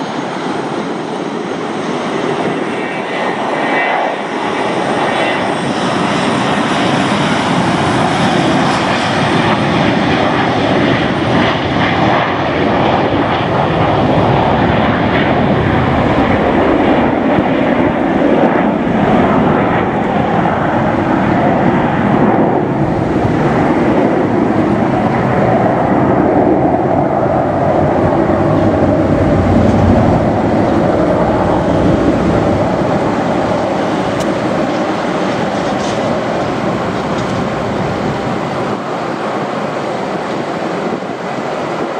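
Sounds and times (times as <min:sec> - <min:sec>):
jet engines at takeoff: 0:00.0 - 0:41.9
low jet rumble: 0:00.0 - 0:41.9.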